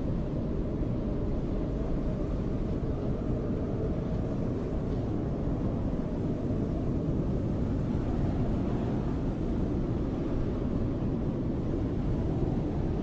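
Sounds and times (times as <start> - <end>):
snowstorm wind blowing: 0.0 - 13.0.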